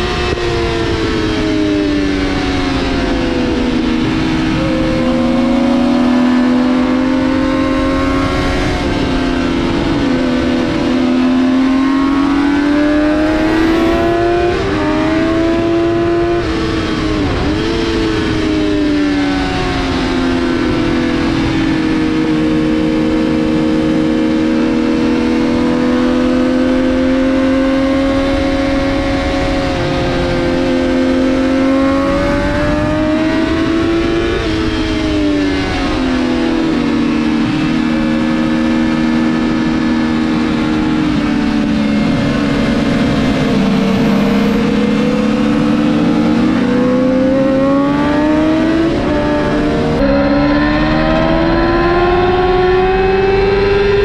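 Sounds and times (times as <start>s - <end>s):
wind rush: 0.0s - 24.3s, 28.0s - 54.0s
motorcycle engine running hard: 0.0s - 54.0s.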